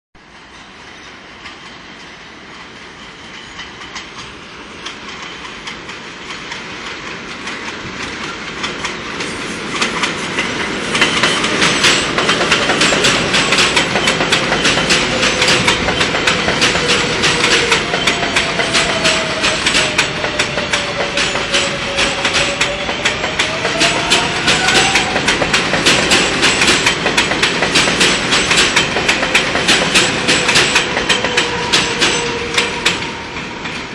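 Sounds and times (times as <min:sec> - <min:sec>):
subway train rumble: 0:00.2 - 0:33.9
wheels clacking over rail joints: 0:03.2 - 0:33.9.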